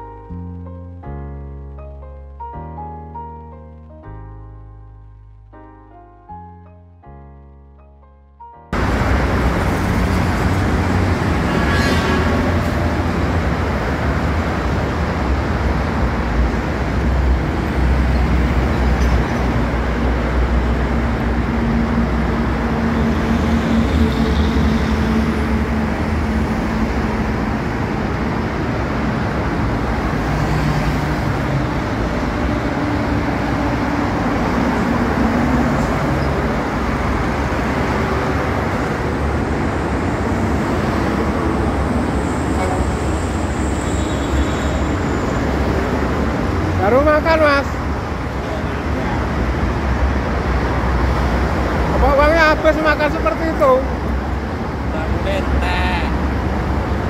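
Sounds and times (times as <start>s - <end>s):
road traffic passing: 8.7s - 57.0s.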